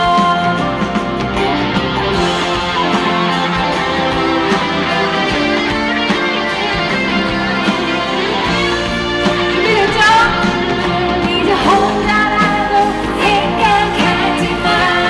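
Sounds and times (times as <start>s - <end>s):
electric guitar: 0.0s - 15.0s
live band playing pop music: 0.0s - 15.0s.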